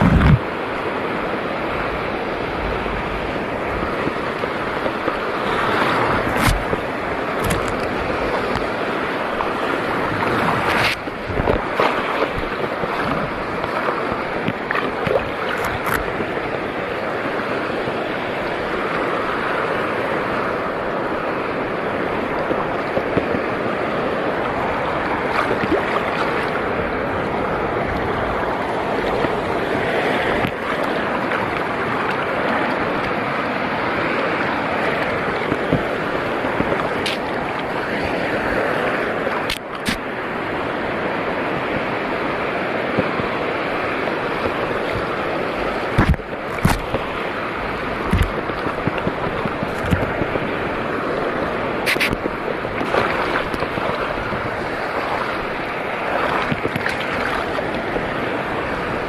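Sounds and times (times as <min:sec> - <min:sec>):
sea waves washing: 0:00.0 - 0:59.0
wind on microphone: 0:00.0 - 0:59.0.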